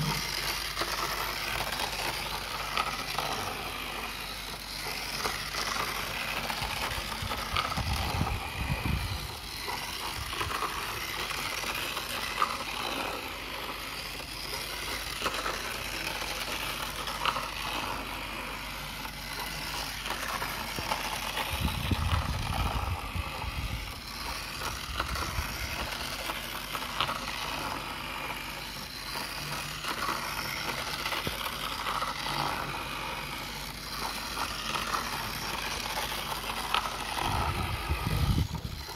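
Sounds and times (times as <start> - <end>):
toy roller coaster whirring and rattling: 0.0 - 38.9.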